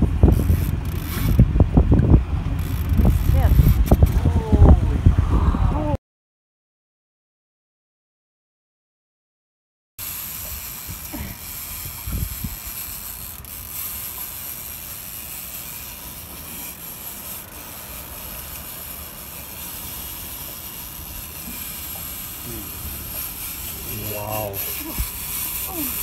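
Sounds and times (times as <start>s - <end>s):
wind: 0.0s - 6.0s, 10.0s - 26.0s.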